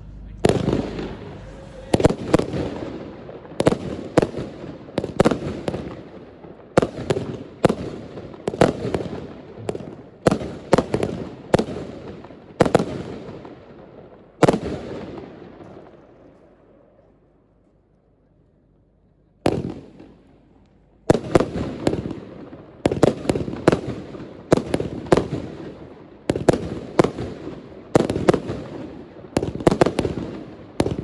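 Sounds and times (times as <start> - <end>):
firework bangs echoing: 0.0 - 17.0, 19.4 - 20.3, 21.1 - 31.0.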